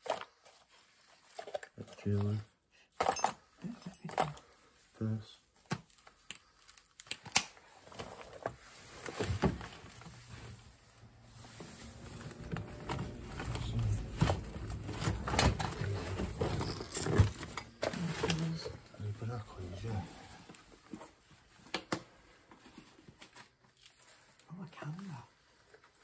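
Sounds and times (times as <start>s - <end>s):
papers rustling: 0.0s - 2.4s, 5.5s - 24.5s.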